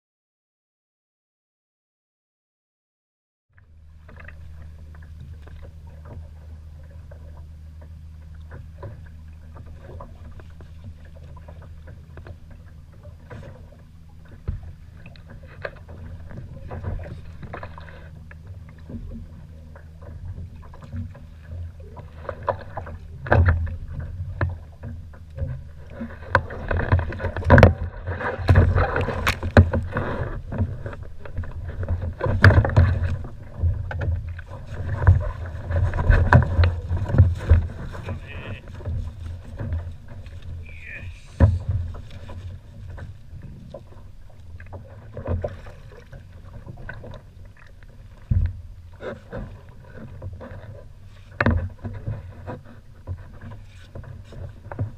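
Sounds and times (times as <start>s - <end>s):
water lapping against plastic hull: 3.5s - 54.9s
low steady rumble: 3.6s - 54.9s
splashes and knocks: 7.1s - 40.7s, 41.3s - 54.9s.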